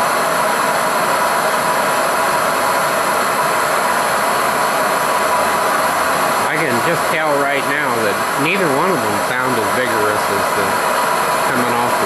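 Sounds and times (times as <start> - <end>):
torch burner flame rushing: 0.0 - 12.0.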